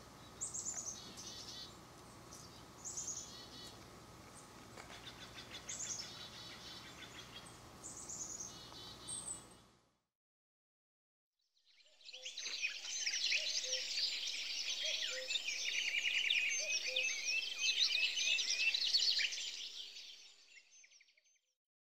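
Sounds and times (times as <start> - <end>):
songbirds chirping: 0.0 - 9.7, 12.0 - 21.1.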